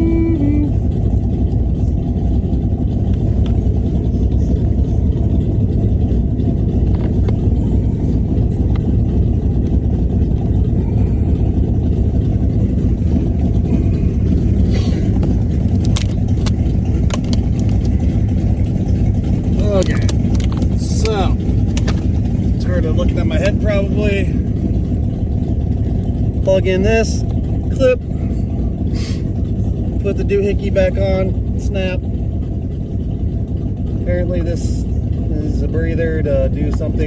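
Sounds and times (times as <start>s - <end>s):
engine rumbling: 0.0s - 37.0s.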